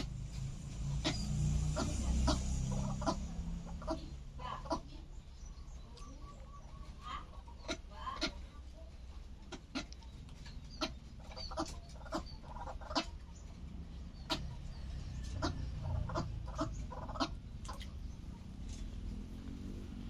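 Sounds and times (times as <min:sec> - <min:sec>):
bird clucking and clicking: 0:00.0 - 0:04.9, 0:05.9 - 0:19.2.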